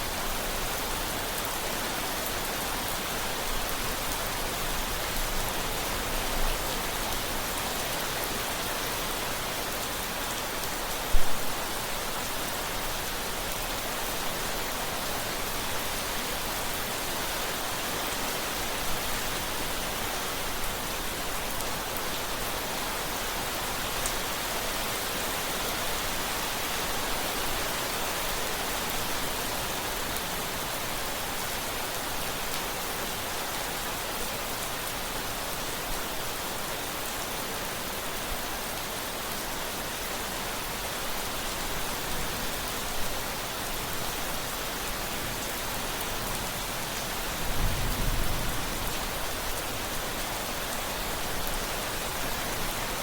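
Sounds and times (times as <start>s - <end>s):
steady rain hissing: 0.0s - 53.0s.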